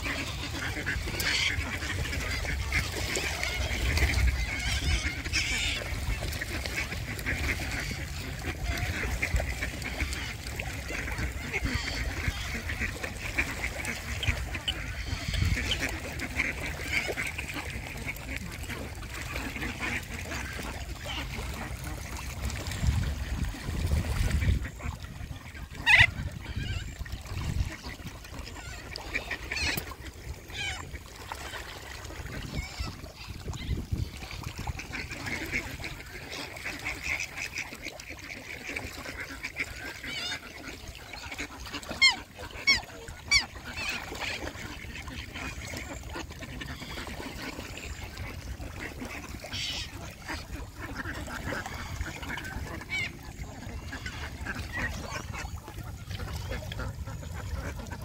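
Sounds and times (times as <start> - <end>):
geese honking: 0.0 - 22.0, 24.4 - 31.5, 34.5 - 58.0
ducks quacking: 0.0 - 58.0.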